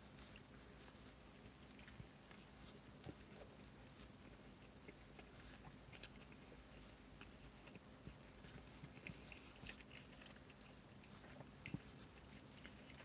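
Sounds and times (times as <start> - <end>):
faint low hum: 0.0 - 13.0
man chewing a burger: 0.0 - 13.0.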